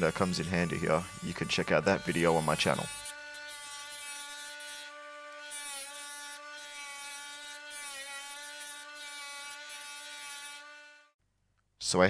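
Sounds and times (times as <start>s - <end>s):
wood sanding against disc: 0.0s - 11.1s.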